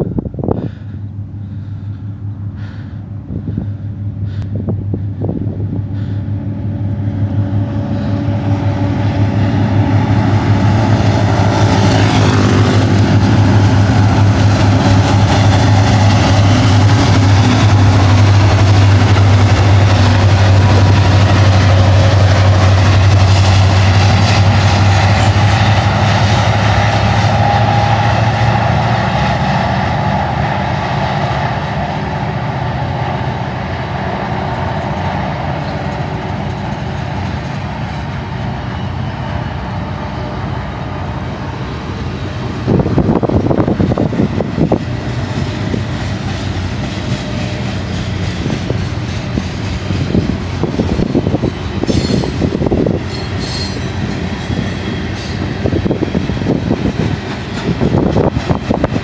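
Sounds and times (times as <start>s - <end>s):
diesel locomotives throbbing hum: 0.0s - 59.0s
freight cars rumbling on rails: 0.0s - 59.0s.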